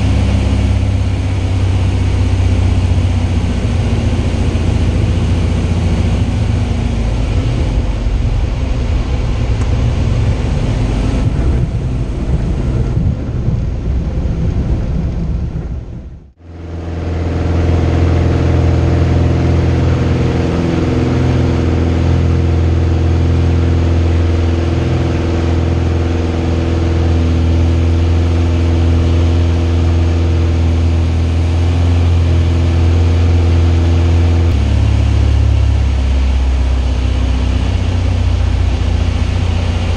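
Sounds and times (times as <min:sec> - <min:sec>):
aircraft piston engine and propeller: 0:00.0 - 0:39.9.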